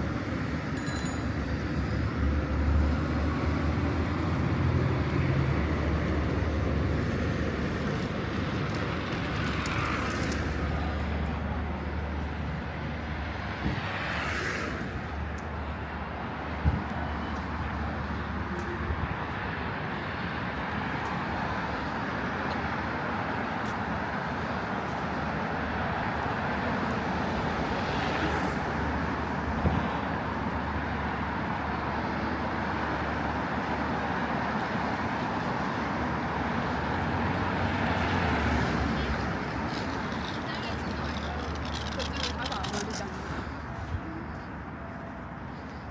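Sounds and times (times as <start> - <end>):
street traffic: 0.0 - 45.9.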